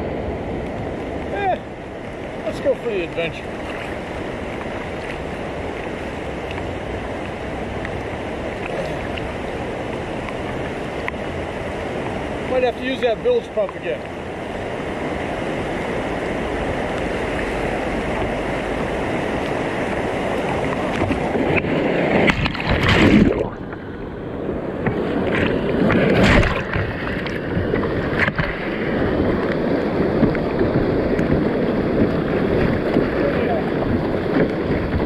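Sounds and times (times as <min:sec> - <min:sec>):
churning whitewater rushing: 0:00.0 - 0:35.0
waves splashing over kayak: 0:00.0 - 0:35.0.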